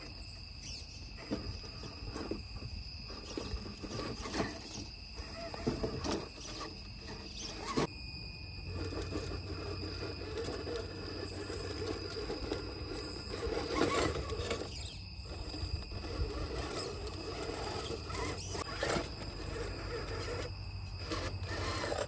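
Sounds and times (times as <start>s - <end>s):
toy car motor whining: 0.0s - 7.9s, 8.6s - 22.0s.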